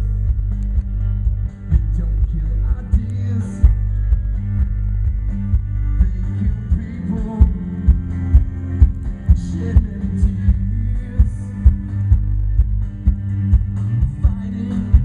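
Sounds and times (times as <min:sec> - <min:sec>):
live band music with heavy bass: 0:00.0 - 0:15.0
thumping beat: 0:00.0 - 0:15.0.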